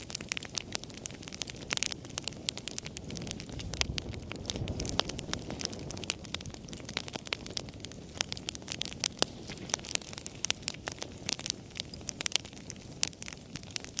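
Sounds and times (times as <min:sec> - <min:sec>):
burning logs crackling: 0:00.0 - 0:14.0
low rumble of flames: 0:00.0 - 0:14.0.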